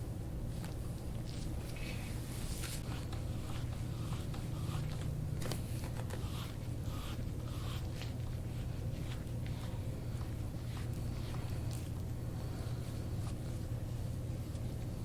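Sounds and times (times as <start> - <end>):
steady low hum: 0.0 - 15.0
hands rubbing skin and clothing: 0.5 - 15.0.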